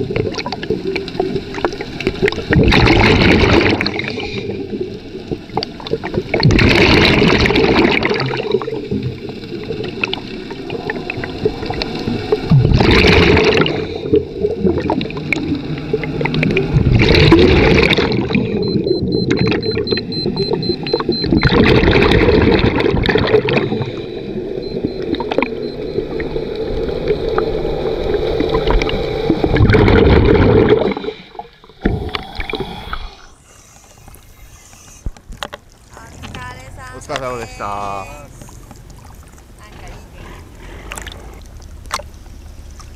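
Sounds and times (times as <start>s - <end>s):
gurgling exhaled bubbles: 0.0s - 36.4s
underwater rumble: 0.0s - 37.3s, 38.2s - 42.9s.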